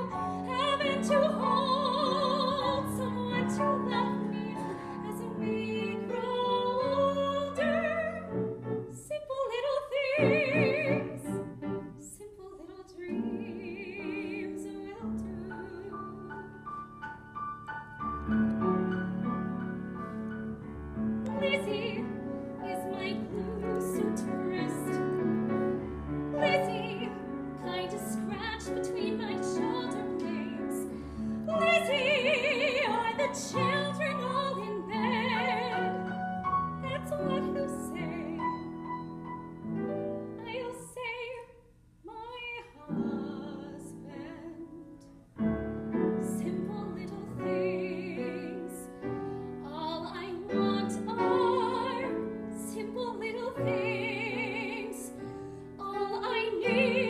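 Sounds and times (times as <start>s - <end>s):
woman singing a ballad: 0.0s - 11.4s, 12.0s - 16.7s, 21.3s - 25.3s, 26.4s - 36.2s, 36.8s - 38.7s, 40.2s - 45.0s, 46.0s - 57.0s
grand piano: 0.0s - 57.0s.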